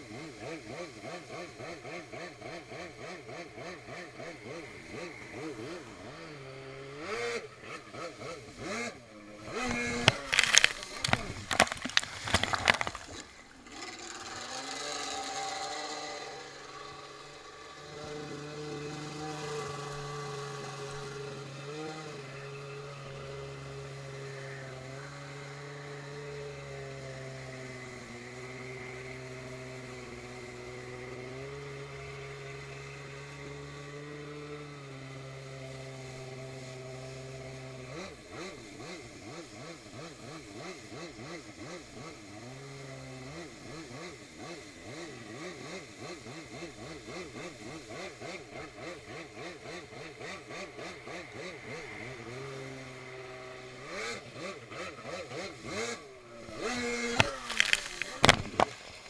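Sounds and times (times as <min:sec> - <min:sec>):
jet ski engine: 0:00.0 - 0:59.0.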